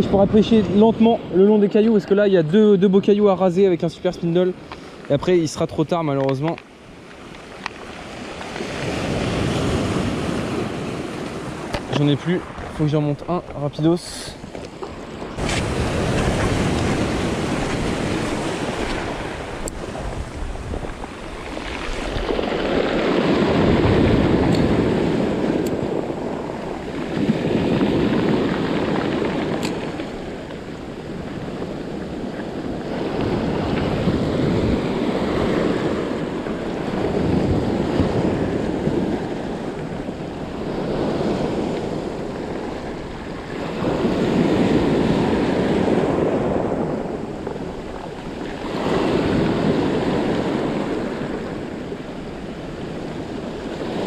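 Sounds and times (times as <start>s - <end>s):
waves breaking on pebbles: 6.3s - 14.5s, 15.4s - 54.0s.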